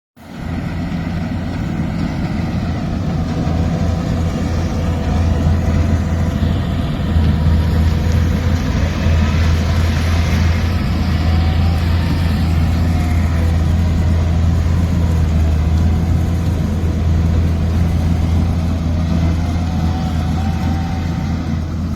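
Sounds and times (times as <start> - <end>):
diesel engine humming: 0.2 - 21.9.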